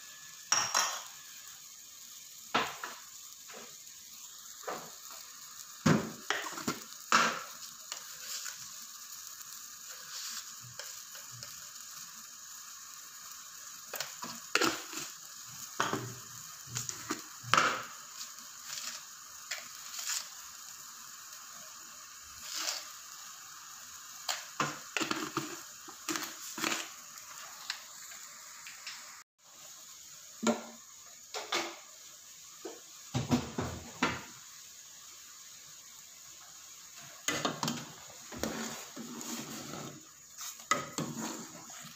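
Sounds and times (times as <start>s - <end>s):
soup boiling hard in a pot: 0.0s - 41.9s.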